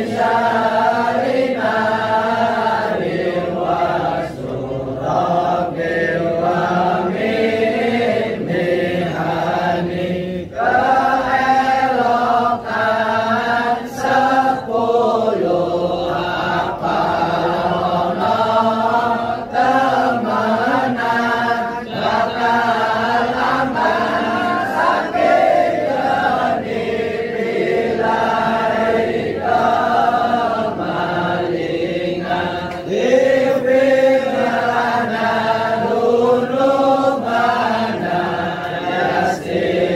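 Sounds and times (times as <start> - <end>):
group of voices chanting: 0.0 - 39.9.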